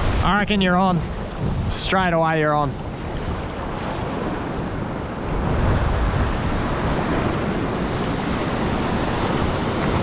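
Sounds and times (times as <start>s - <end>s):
ocean waves breaking: 0.0s - 10.0s
wind buffeting microphone: 0.0s - 10.0s.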